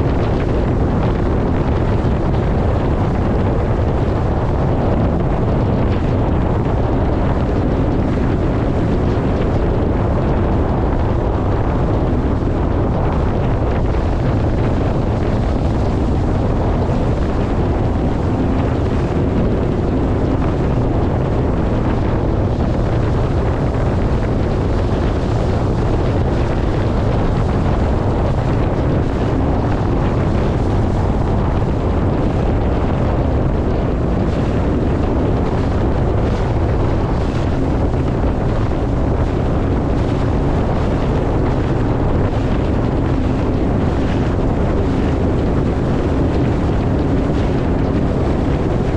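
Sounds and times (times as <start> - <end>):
personal watercraft engine running: 0.0 - 48.9
wind buffeting microphone: 0.0 - 48.9.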